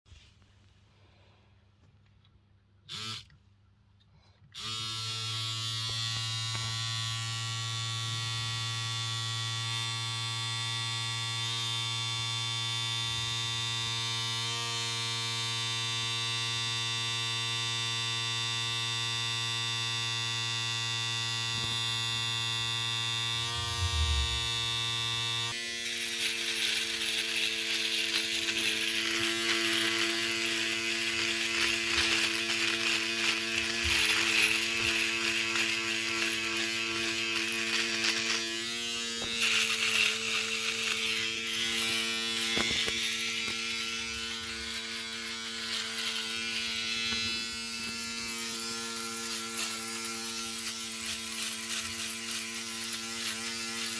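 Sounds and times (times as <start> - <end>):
electric shaver buzzing: 2.9 - 3.3, 4.6 - 53.9.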